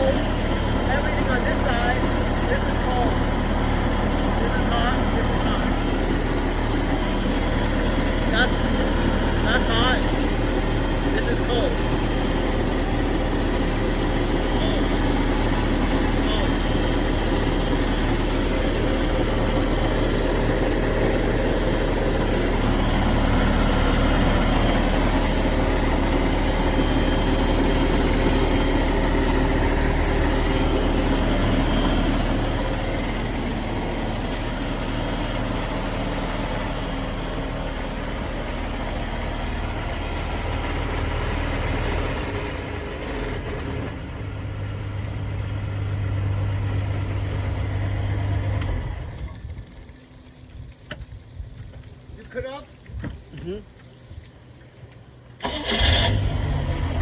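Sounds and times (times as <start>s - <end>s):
boat engine idling: 0.0s - 57.0s.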